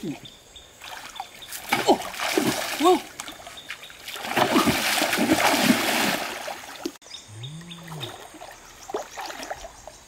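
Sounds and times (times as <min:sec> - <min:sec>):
water splashing: 0:00.8 - 0:07.0, 0:07.8 - 0:10.0.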